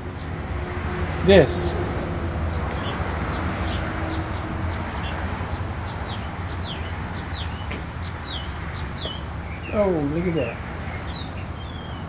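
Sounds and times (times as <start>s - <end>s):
small birds chirping: 1.1s - 12.0s.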